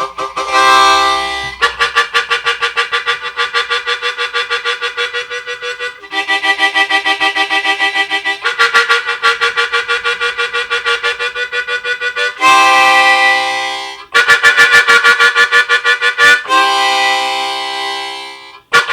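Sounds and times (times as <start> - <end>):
harmonica chugging like a train: 0.0 - 18.9
harmonica whistle chord: 0.0 - 18.9.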